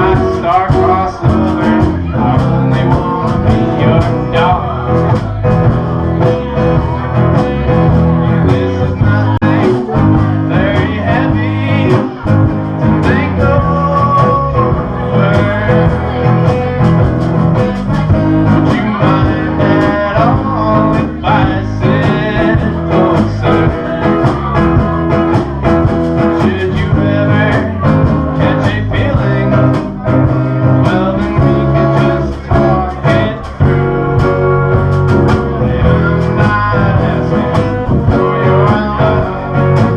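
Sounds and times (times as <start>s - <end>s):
blues guitar rhythm: 0.0s - 39.9s
person singing: 0.0s - 39.9s.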